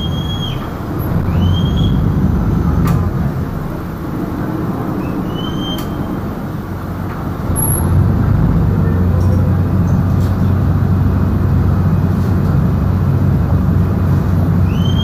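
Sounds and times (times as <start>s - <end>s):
boat diesel engine drone: 0.0s - 15.0s
water: 0.0s - 15.0s
wind noise: 0.0s - 15.0s.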